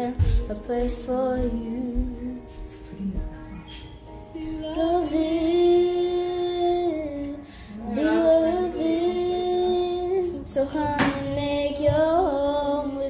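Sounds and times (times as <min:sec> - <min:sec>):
girl singing: 0:00.0 - 0:13.0.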